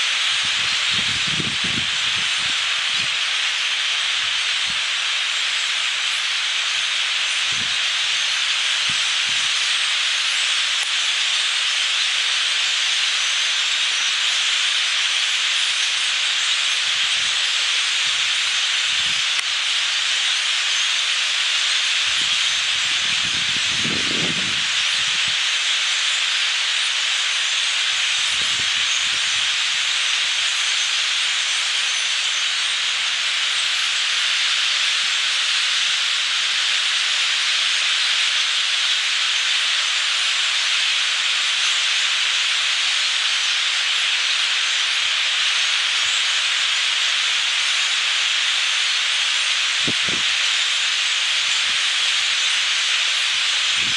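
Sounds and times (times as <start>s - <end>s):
flock of birds chattering: 0.0s - 53.9s.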